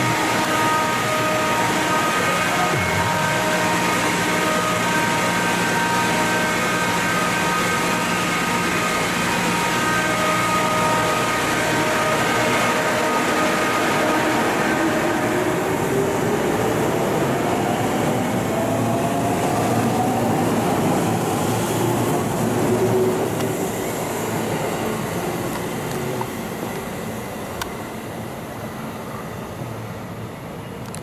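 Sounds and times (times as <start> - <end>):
train motor whine: 0.0 - 29.1
electric train rumbling past: 0.0 - 30.8.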